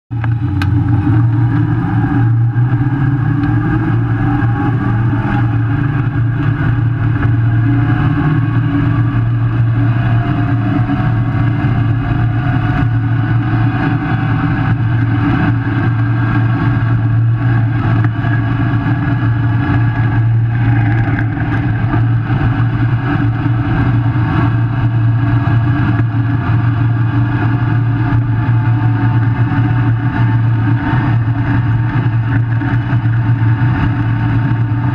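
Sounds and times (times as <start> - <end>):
drivetrain whine rising in pitch: 0.1 - 34.9
vehicle low drone: 0.1 - 34.9.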